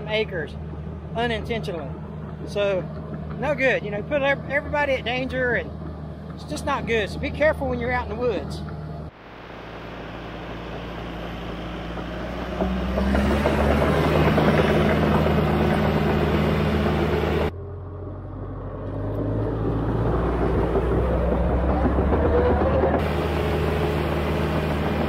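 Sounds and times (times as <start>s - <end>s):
bulldozer diesel engine hum: 0.0s - 25.0s.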